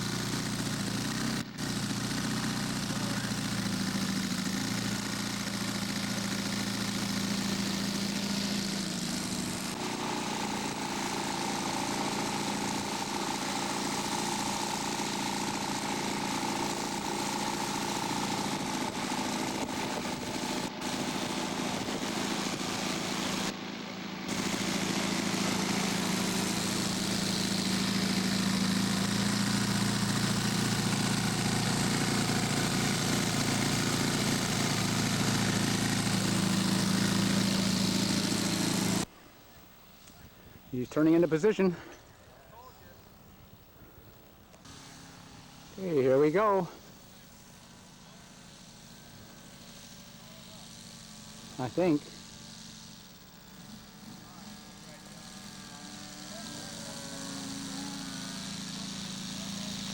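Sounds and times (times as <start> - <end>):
model airplane engine running: 0.0 - 39.2, 39.8 - 59.9.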